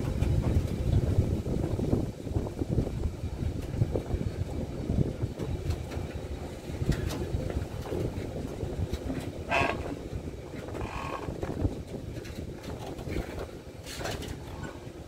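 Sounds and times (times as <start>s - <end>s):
freight wagons rumbling on rails: 0.0s - 15.0s.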